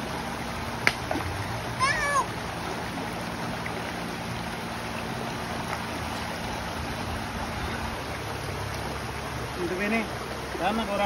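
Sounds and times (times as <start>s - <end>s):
river rushing over stones: 0.0s - 11.0s.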